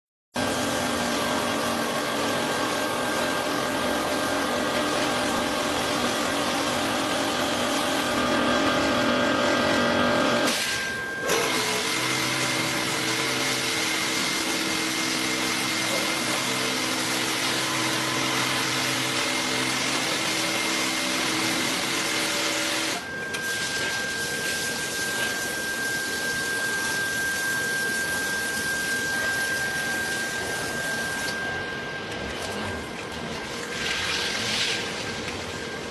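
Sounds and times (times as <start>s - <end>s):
washing machine motor whine: 0.4s - 35.9s
washing machine rushing: 0.4s - 35.9s.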